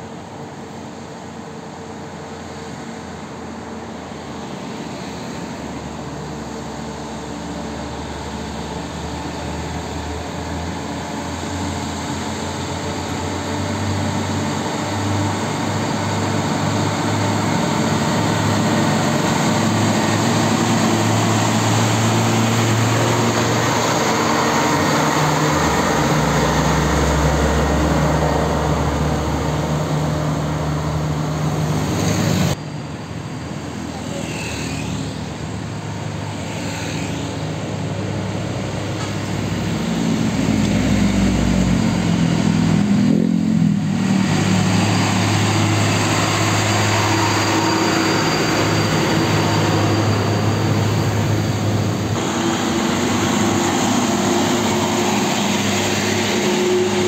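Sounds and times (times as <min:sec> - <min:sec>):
truck diesel engine passing: 0:00.0 - 0:57.0.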